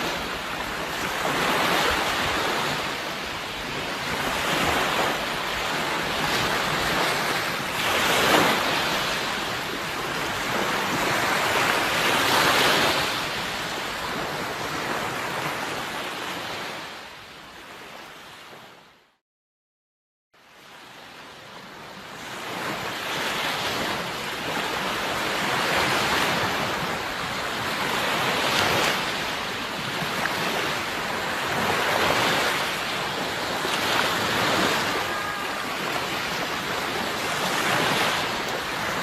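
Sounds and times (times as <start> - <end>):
sea waves washing onto shore: 0.0 - 17.1, 20.8 - 39.0.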